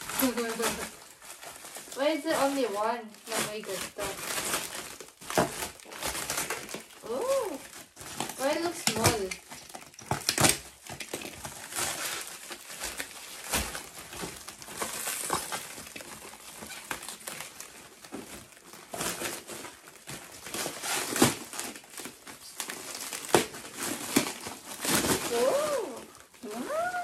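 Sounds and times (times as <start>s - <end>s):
plastic wrapping crinkling: 0.0s - 27.0s.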